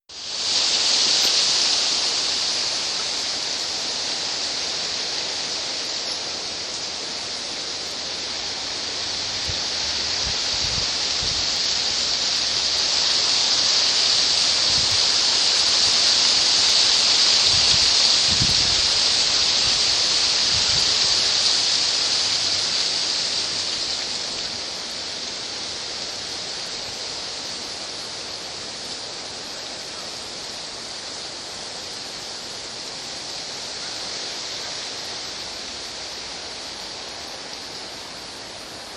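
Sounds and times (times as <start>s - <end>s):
leaves rustling in wind: 0.0s - 38.9s.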